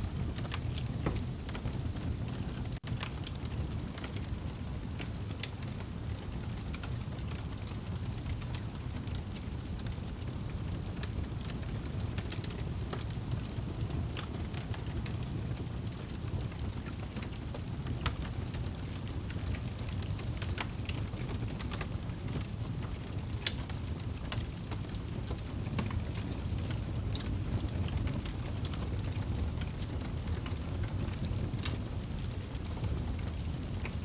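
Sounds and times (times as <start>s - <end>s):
steady rain: 0.0s - 34.0s
wood fire crackling: 0.0s - 34.0s.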